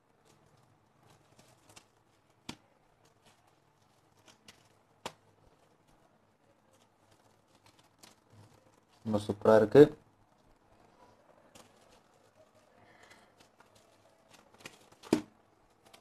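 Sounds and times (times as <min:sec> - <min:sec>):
phones rustling on bubble wrap: 0:00.0 - 0:16.0.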